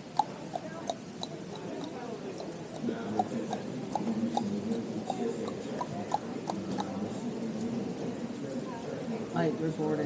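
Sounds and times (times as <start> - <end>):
murmur of passengers' voices: 0.0 - 10.0.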